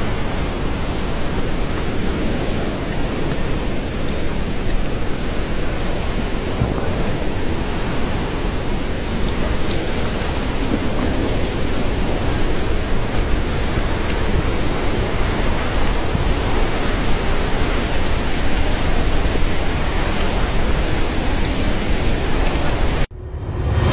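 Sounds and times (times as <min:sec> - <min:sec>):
floodwater rushing: 0:00.0 - 0:23.1.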